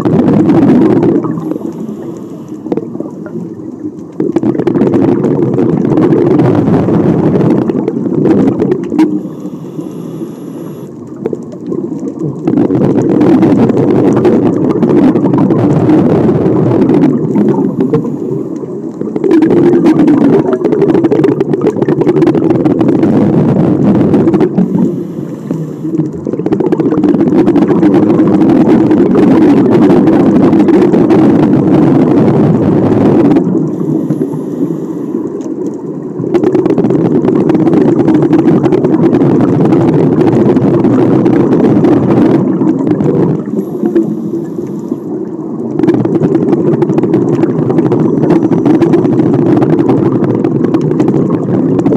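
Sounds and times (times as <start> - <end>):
underwater exhaled bubbles rushing: 0.0 - 51.9.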